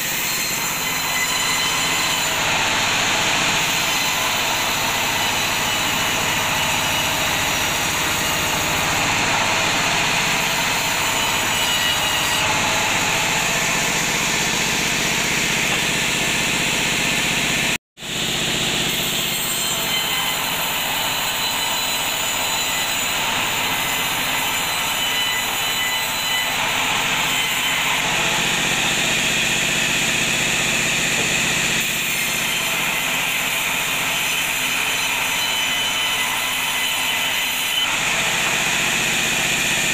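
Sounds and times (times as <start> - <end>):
bandsaw cutting through wood: 0.0 - 39.9.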